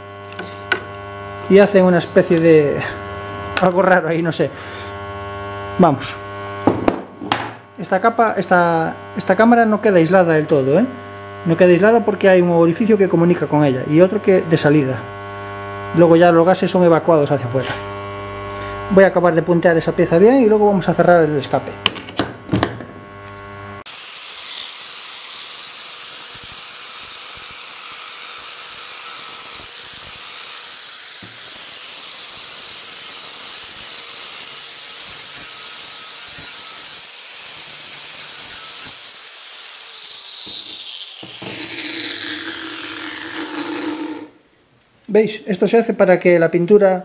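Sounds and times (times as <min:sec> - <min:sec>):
angle grinder grinding metal: 0:00.0 - 0:06.8, 0:07.6 - 0:44.4.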